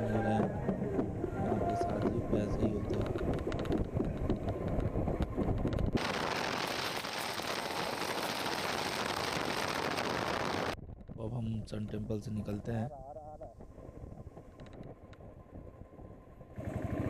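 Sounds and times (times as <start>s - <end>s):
wind noise on microphone: 0.0s - 16.9s
motorcycle engine rumbling: 0.0s - 17.0s.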